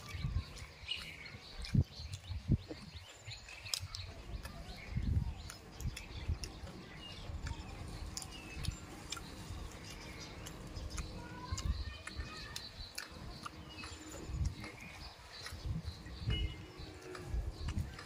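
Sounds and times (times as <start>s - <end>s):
birds chirping: 0.0s - 18.0s
person chewing and lip smacking: 0.1s - 18.0s
wet clicks and soft thumps: 0.9s - 18.0s.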